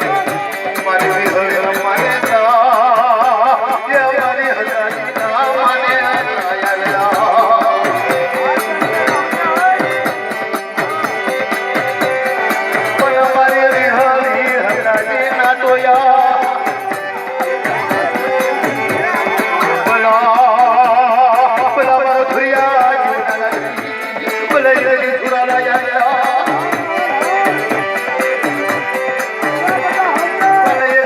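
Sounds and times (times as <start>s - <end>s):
drum beating steady rhythm: 0.0s - 31.0s
wavering melody: 0.0s - 31.0s.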